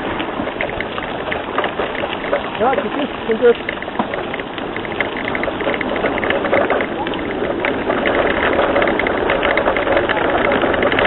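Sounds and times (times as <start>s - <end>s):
bicycle rolling over rough trail: 0.0s - 11.0s.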